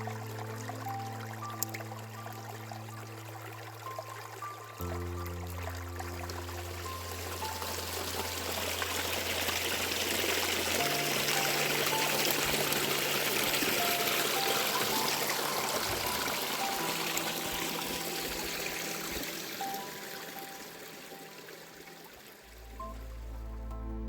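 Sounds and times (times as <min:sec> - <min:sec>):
water flowing: 0:00.0 - 0:23.6
quiet background music: 0:00.0 - 0:24.0.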